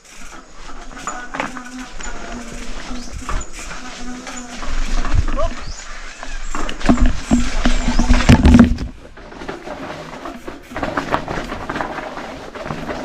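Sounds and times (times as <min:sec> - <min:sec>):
bike rattling over dirt trail: 0:00.0 - 0:13.0.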